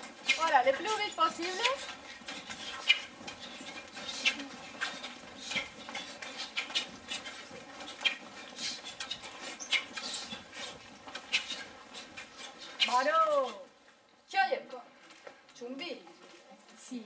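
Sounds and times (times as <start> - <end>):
uniforms swishing and snapping: 0.0 - 13.8.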